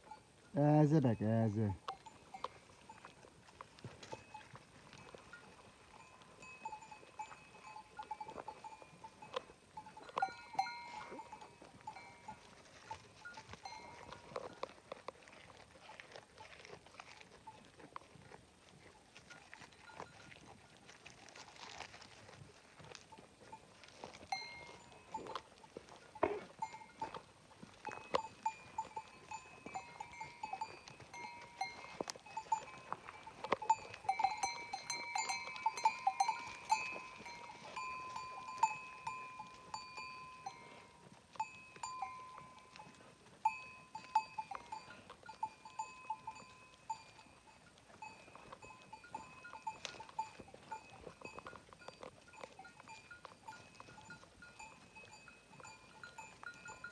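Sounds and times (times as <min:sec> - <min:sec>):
livestock neck bells clinking: 0:00.0 - 0:56.9.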